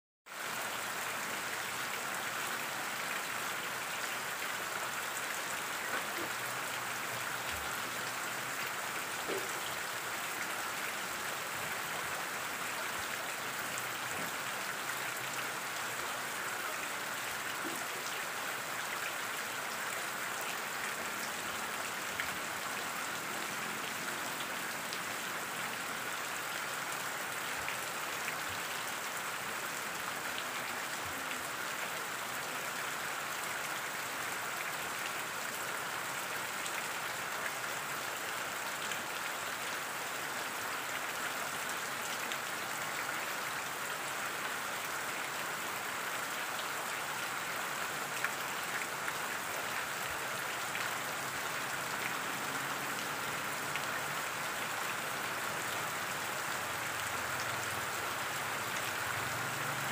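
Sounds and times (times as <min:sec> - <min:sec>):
rain falling into puddle: 0:00.3 - 0:59.9
stream of water splashing: 0:00.3 - 0:59.9.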